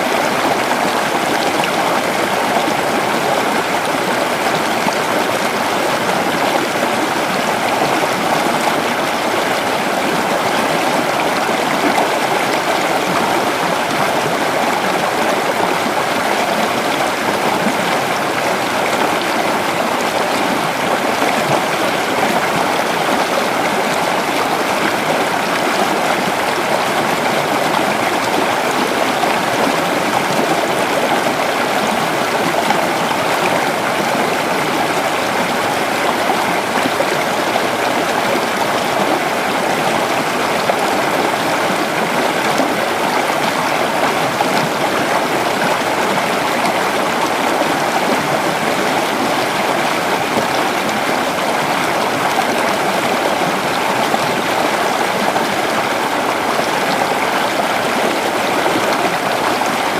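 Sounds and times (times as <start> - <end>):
creek water running over rocks: 0.0 - 59.9.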